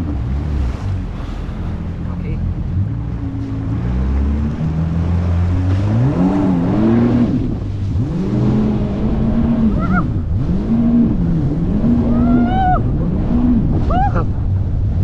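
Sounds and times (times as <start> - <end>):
jet ski engine throttling: 0.0 - 15.0
water rushing: 0.0 - 15.0.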